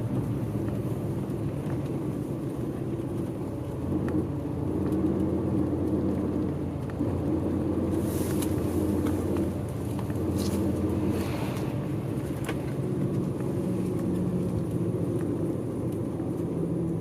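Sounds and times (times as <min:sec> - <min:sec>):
bus diesel engine hum: 0:00.0 - 0:17.0
road noise: 0:00.0 - 0:17.0.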